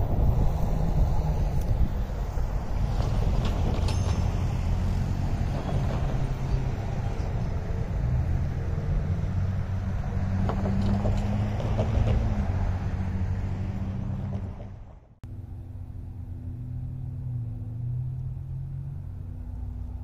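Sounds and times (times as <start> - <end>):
low engine rumble with hum: 0.0 - 20.0.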